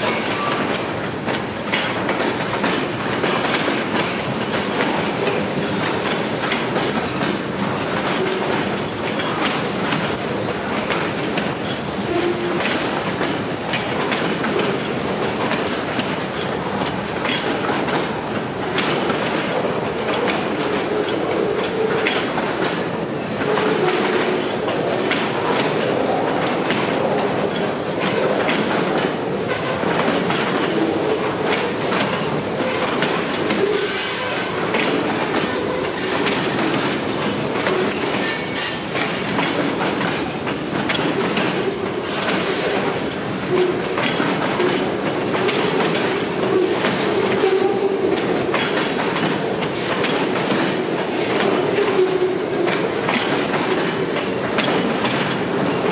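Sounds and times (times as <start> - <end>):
freight train wheels clicking: 0.0 - 55.9.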